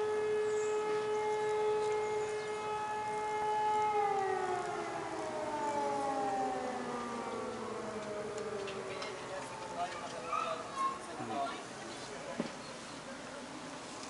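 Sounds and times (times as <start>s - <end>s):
civil defence siren: 0.0s - 11.6s.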